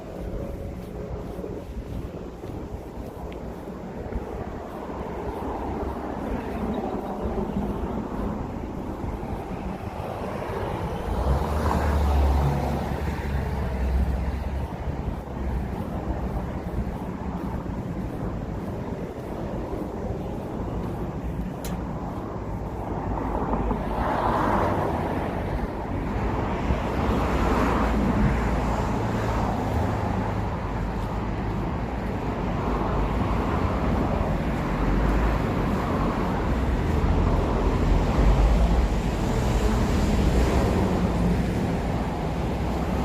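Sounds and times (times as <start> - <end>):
cars passing: 0.0 - 43.0.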